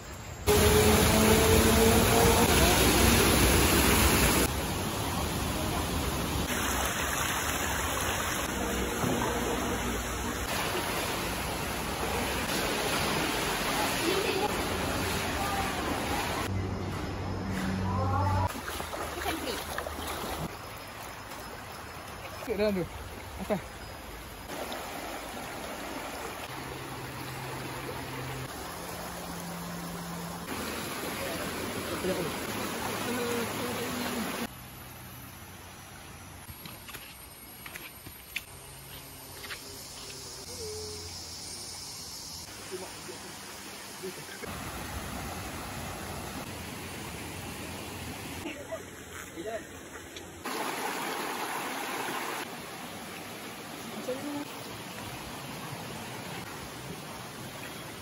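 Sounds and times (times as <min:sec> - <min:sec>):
stream water rushing over weir: 0:00.4 - 0:16.5, 0:18.4 - 0:35.2, 0:42.5 - 0:49.6, 0:50.4 - 0:58.0.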